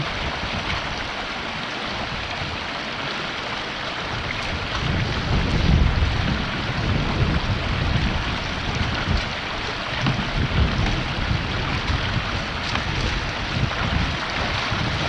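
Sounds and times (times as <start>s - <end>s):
river water rushing: 0.0s - 15.0s
wind buffeting microphone: 0.0s - 15.0s.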